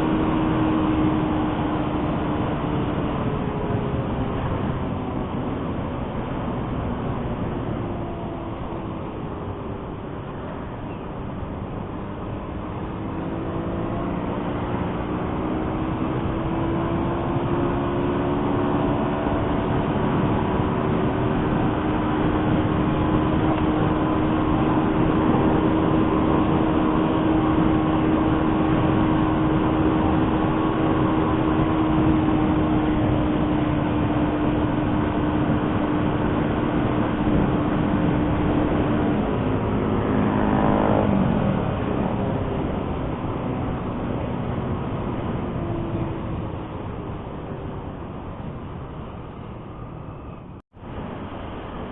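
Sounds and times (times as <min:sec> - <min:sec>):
road and wind noise: 0:00.0 - 0:51.9.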